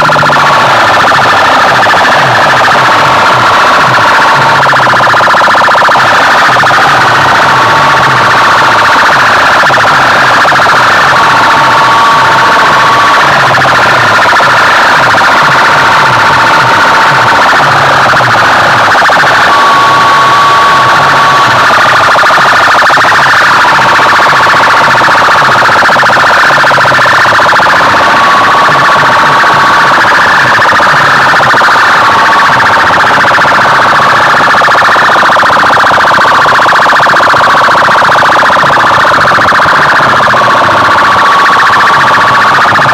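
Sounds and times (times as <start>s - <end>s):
siren alarm through loudspeakers: 0.0s - 42.9s.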